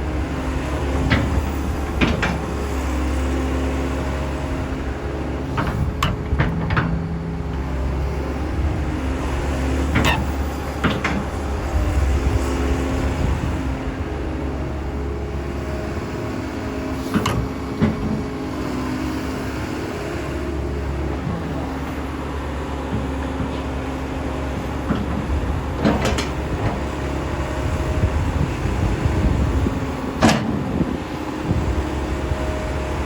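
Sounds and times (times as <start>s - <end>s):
excavator engine humming: 0.0s - 33.0s.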